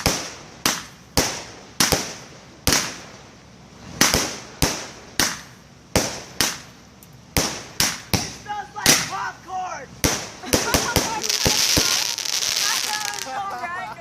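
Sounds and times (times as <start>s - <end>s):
fireworks bangs: 0.0s - 9.4s, 10.0s - 14.0s.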